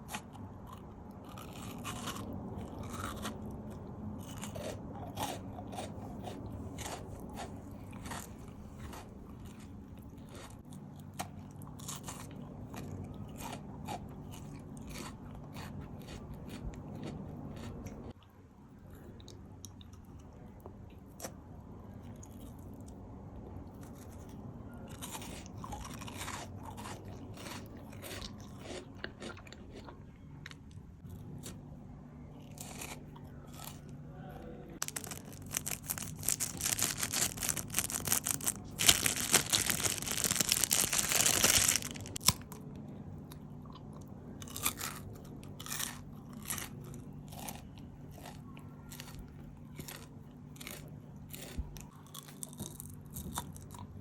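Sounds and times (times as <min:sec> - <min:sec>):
crisp crunching: 0:00.0 - 0:18.1, 0:23.8 - 0:31.6, 0:34.8 - 0:53.9
close-miked chewing: 0:00.0 - 0:54.0.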